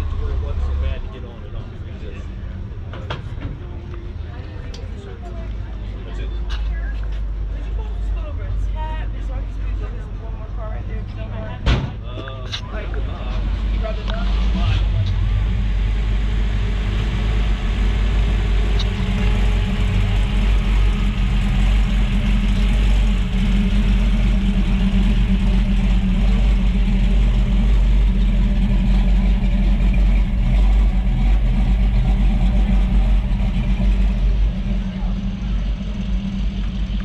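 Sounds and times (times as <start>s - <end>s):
car engine running: 0.0s - 37.0s
outdoor background noise: 0.0s - 37.0s.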